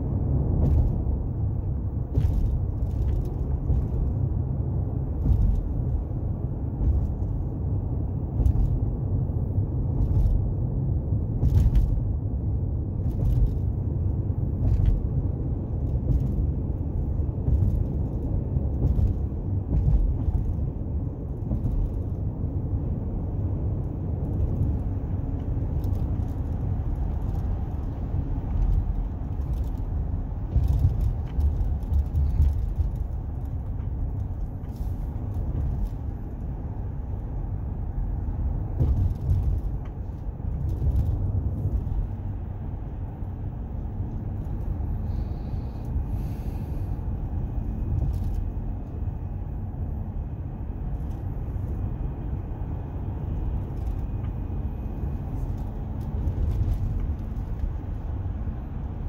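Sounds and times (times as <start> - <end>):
car road rumble and engine: 0.0 - 59.0.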